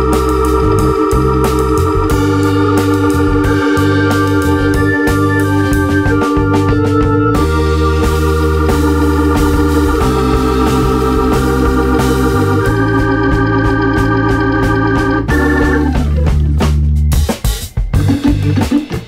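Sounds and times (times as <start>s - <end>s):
organ-like chords over bass: 0.0s - 19.0s.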